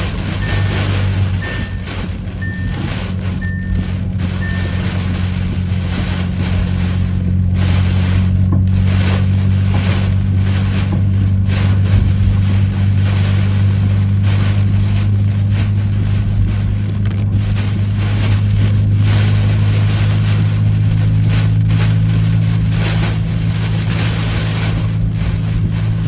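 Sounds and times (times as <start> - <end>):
rain: 0.0 - 26.0
vehicle droning: 0.0 - 26.0.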